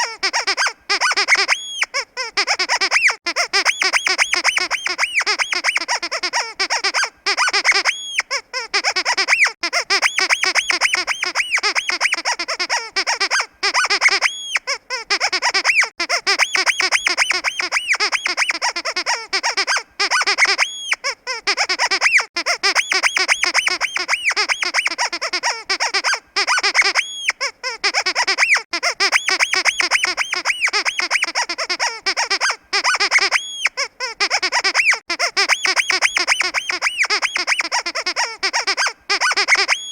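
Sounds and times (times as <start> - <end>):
squeaky rubber dog toy: 0.0 - 39.9.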